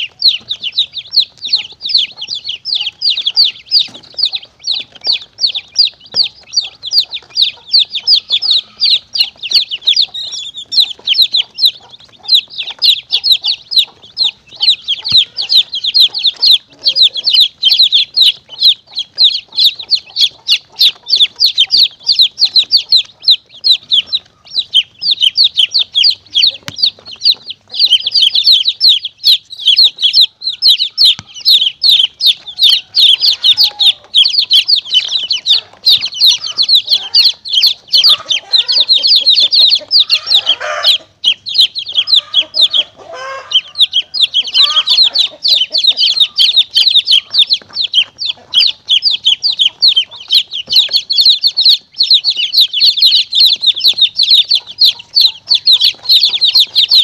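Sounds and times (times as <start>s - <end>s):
chicks peeping: 0.0s - 57.0s
low clucking: 0.0s - 57.0s.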